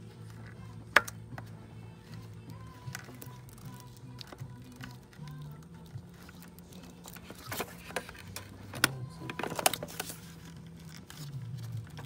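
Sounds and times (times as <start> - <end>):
low background music: 0.0 - 12.0.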